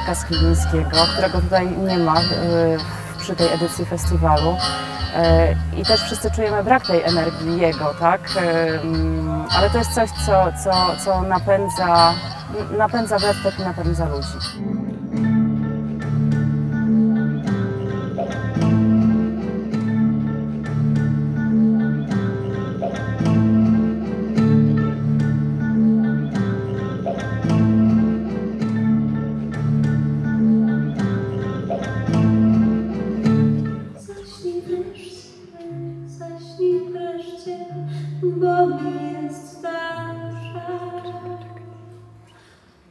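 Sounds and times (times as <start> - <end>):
guitar music: 0.0 - 42.3.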